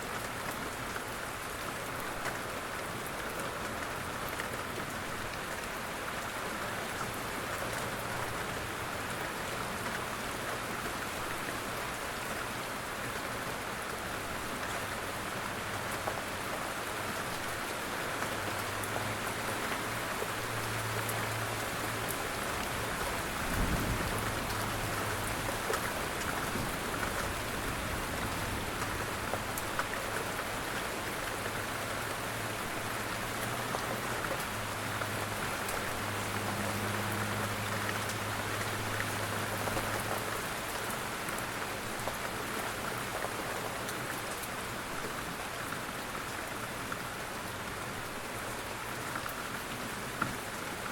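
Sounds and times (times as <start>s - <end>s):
gentle rain falling: 0.0s - 50.9s.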